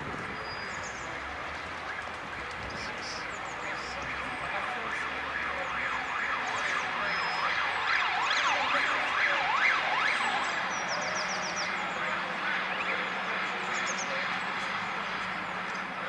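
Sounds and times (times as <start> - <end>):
distant siren in yelp mode: 0.0 - 16.0
town background noise: 0.0 - 16.0.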